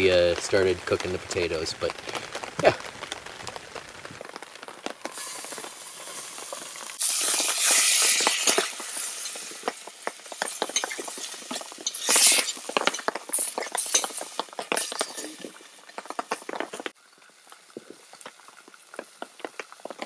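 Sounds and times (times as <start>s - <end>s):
meat sizzling in a pot: 1.9s - 20.0s.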